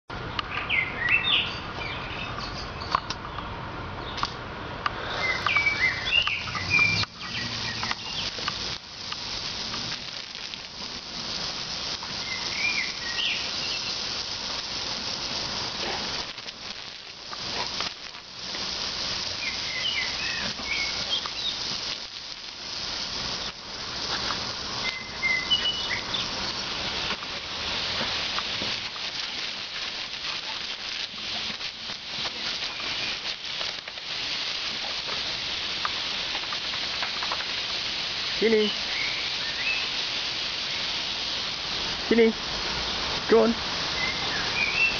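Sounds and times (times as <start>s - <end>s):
garden hose spraying water: 0.1s - 44.9s
birds chirping: 0.2s - 44.9s.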